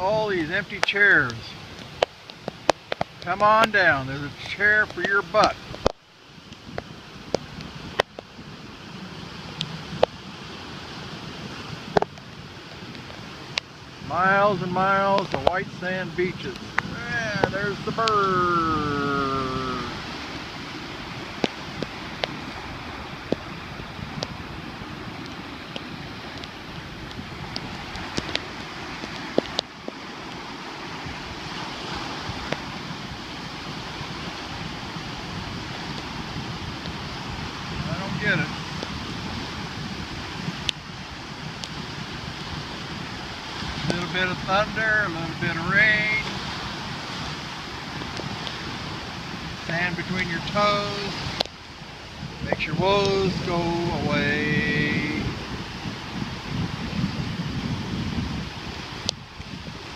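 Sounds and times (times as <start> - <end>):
ocean surf washing on beach: 0.0 - 59.9
wind on microphone: 0.0 - 59.9.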